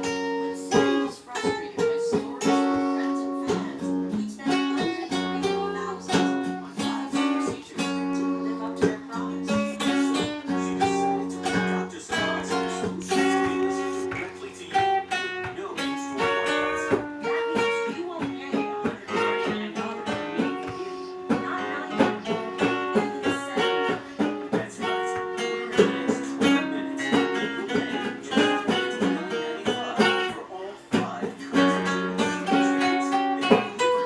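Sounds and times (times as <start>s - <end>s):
acoustic guitar playing: 0.0s - 34.0s.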